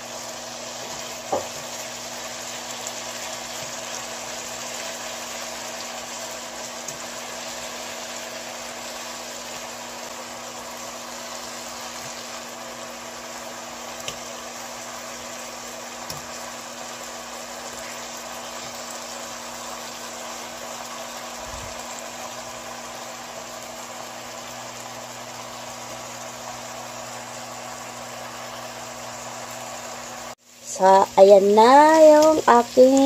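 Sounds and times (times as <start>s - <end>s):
meat sizzling in frying pan: 0.0s - 33.0s.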